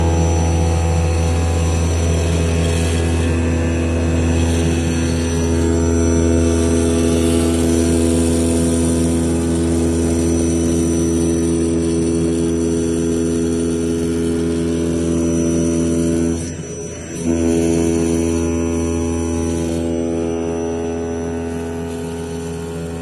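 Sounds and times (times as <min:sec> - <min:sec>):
cutting machine humming: 0:00.0 - 0:23.0.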